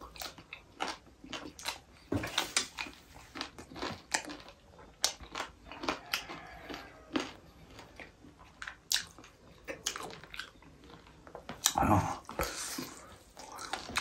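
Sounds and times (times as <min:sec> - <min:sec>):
person chewing and lip smacking: 0:00.0 - 0:14.0.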